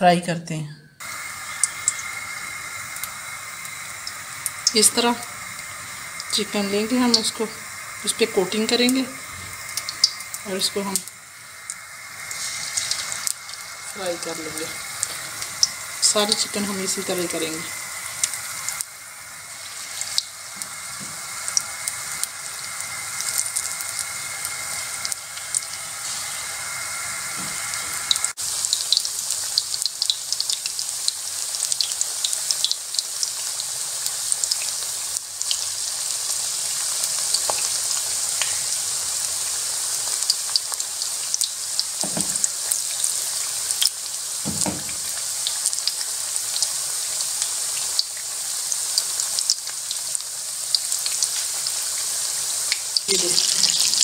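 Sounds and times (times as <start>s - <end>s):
food deep-frying in oil: 1.0s - 54.0s.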